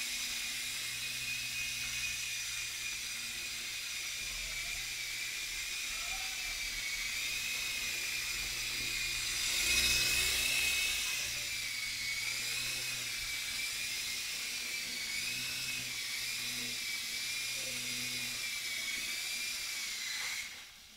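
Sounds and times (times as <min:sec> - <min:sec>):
toy helicopter rotor whine: 0:00.0 - 0:20.9.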